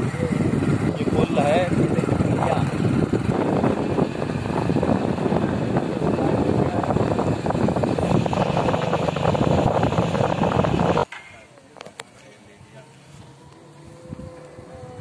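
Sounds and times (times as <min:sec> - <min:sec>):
vehicle road rumble: 0:00.0 - 0:15.0.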